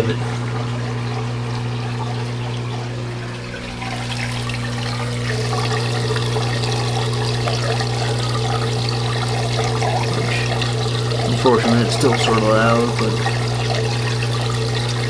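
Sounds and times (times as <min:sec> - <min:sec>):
pump humming: 0:00.0 - 0:15.0
water splashing and trickling: 0:00.0 - 0:15.0.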